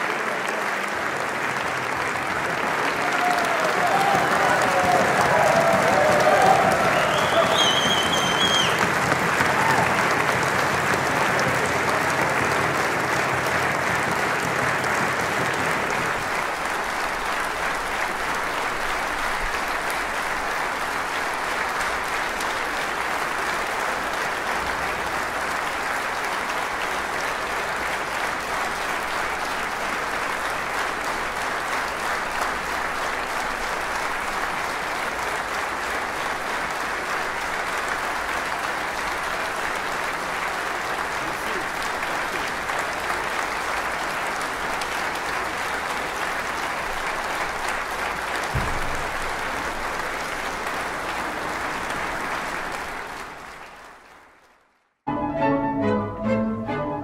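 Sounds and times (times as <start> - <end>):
large audience applauding: 0.0 - 55.8.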